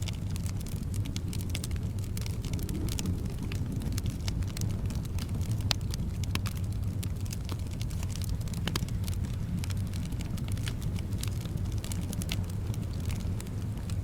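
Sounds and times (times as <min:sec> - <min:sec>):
soft wind rumble: 0:00.0 - 0:14.0
wood fire crackling and popping: 0:00.0 - 0:14.0.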